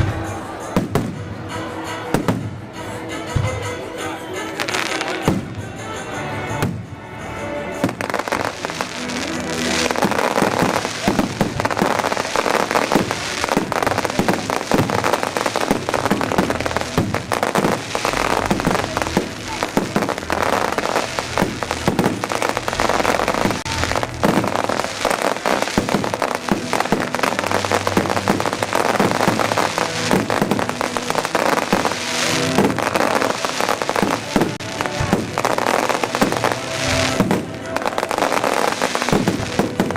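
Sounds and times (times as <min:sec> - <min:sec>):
fireworks bangs and crackling: 0:00.0 - 0:39.9
music playing: 0:00.0 - 0:39.9.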